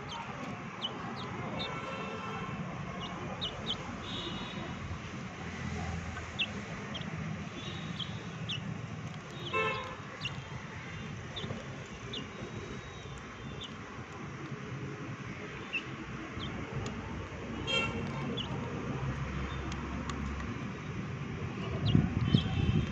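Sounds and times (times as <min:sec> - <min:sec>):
traffic hum: 0:00.0 - 0:22.9.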